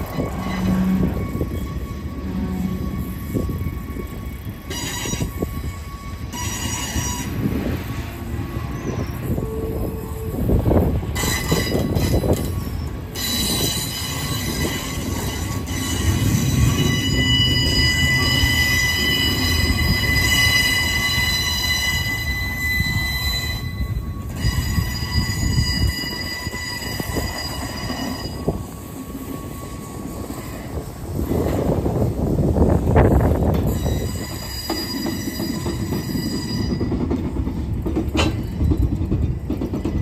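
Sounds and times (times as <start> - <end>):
high wheel squeal: 0.0 - 37.1
train wheels rumbling on rail: 0.0 - 40.0.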